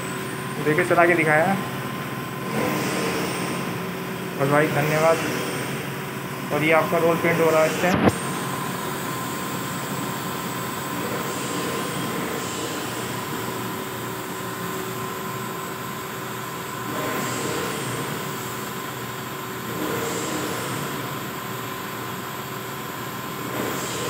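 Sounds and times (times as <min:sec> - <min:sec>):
constant machine whine: 0:00.0 - 0:24.0
printing machine running: 0:00.0 - 0:24.0.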